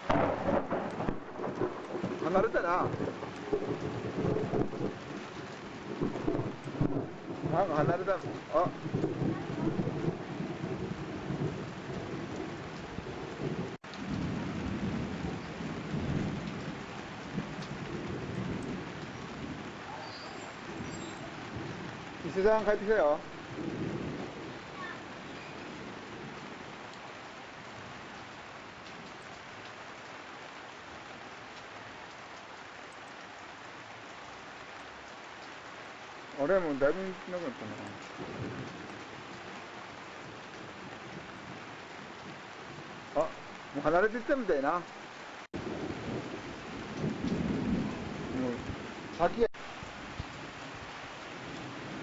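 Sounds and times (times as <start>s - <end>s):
rain rushing: 0.0s - 52.0s.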